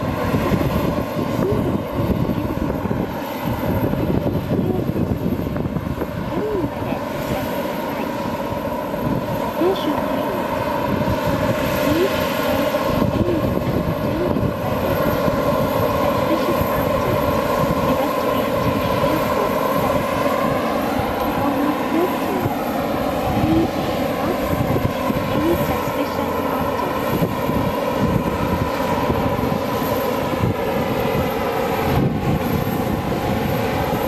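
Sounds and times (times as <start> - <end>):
engine whine: 0.0 - 34.0
turboprop engines droning: 0.0 - 34.0.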